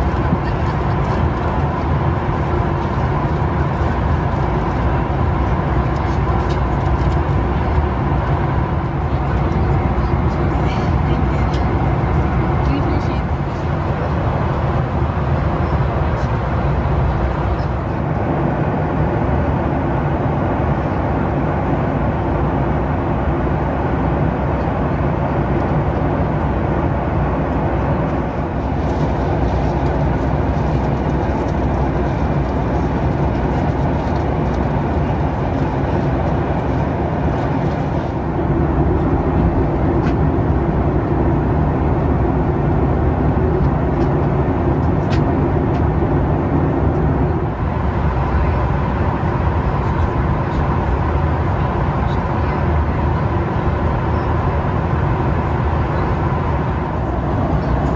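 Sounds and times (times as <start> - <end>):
airflow rushing over fuselage: 0.0 - 57.9
jet engines humming: 0.0 - 57.9.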